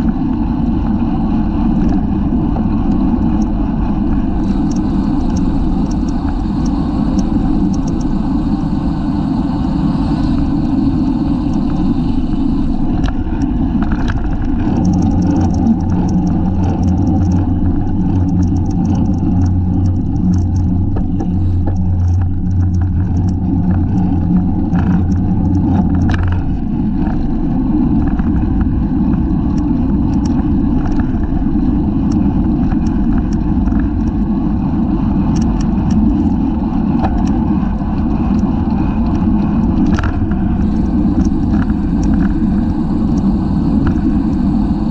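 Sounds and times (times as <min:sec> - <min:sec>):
small ticks and rattles: 0:00.0 - 0:09.2, 0:09.8 - 0:44.9
road rumble: 0:00.0 - 0:44.9
steady low hum: 0:00.0 - 0:44.9
wind rushing over microphone: 0:00.0 - 0:44.9.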